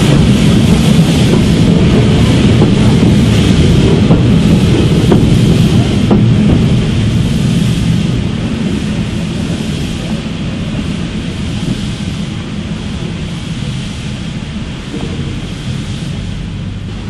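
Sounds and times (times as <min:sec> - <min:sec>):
steam locomotive moving off: 0:00.0 - 0:17.0.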